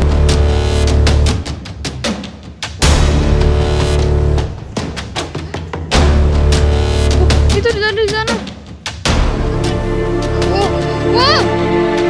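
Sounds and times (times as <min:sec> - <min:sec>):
bass-heavy music with drum beat: 0:00.0 - 0:12.0.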